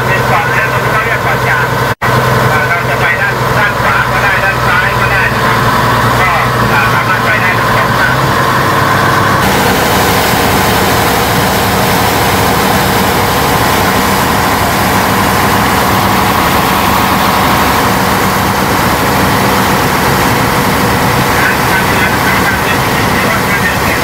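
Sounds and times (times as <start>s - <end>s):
motorboat engine running: 0.0s - 24.0s
water rushing: 0.0s - 24.0s.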